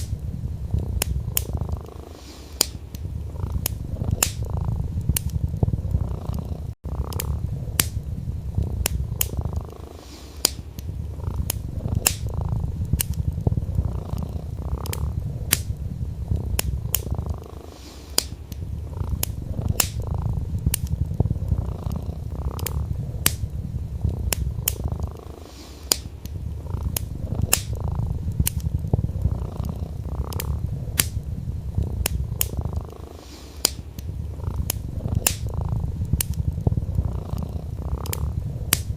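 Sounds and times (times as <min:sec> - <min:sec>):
cat purring: 0:00.0 - 0:38.9
wood fire crackling: 0:00.0 - 0:38.9.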